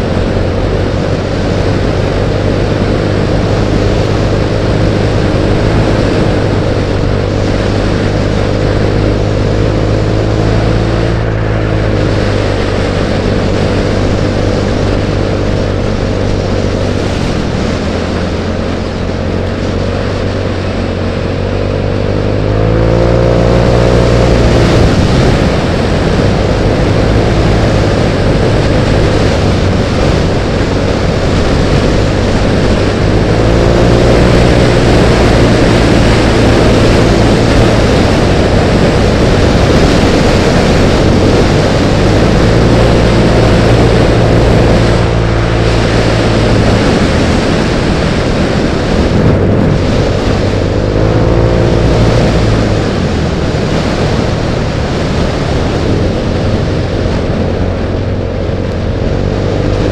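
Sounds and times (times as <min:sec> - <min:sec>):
motor scooter engine: 0:00.0 - 0:59.9
wind rush on microphone: 0:00.0 - 0:59.9.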